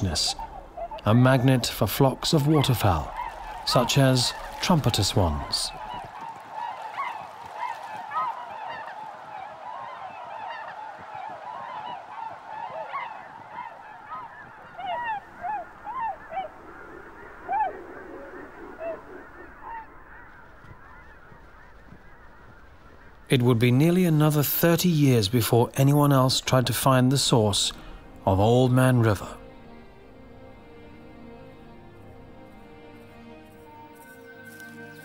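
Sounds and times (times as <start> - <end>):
swans calling: 0.0 - 35.0.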